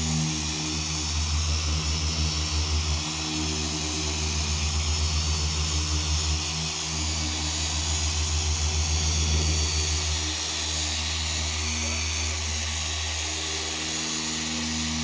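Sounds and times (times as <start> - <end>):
electric polisher humming: 0.0 - 15.0.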